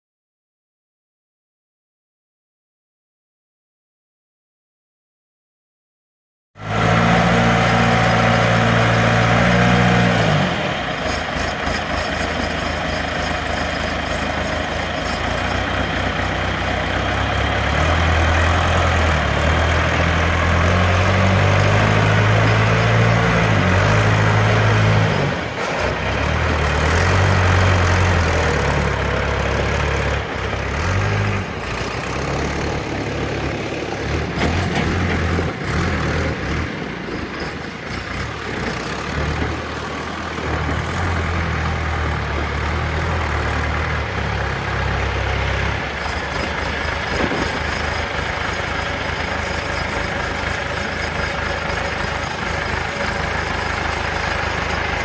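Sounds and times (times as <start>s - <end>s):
tractor diesel engine running: 6.6s - 55.0s.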